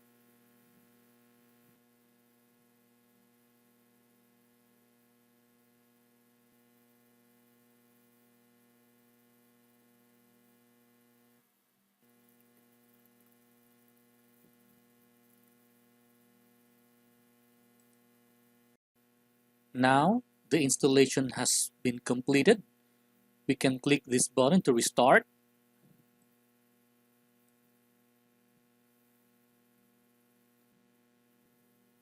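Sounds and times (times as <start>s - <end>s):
faint electrical mains hum: 0.0s - 32.0s.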